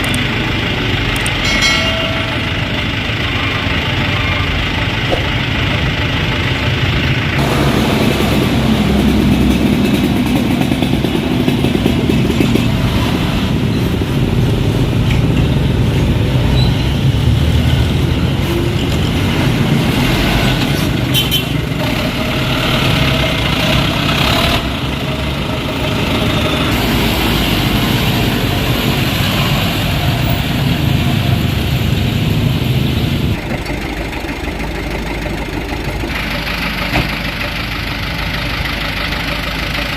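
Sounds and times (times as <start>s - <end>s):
dump truck diesel engine: 0.0s - 39.9s.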